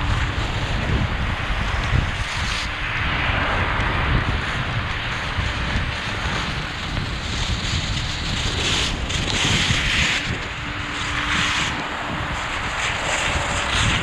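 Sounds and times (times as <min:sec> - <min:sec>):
skis hissing on snow: 0:00.0 - 0:14.0
wind buffeting microphone: 0:00.0 - 0:14.0.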